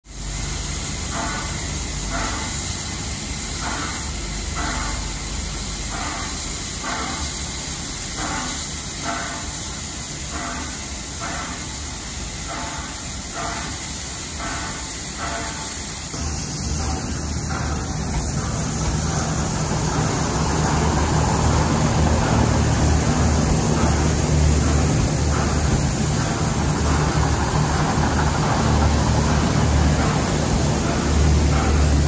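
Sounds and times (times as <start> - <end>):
short steam pulses: 0.1 - 32.0
steam locomotive hissing: 0.1 - 32.0.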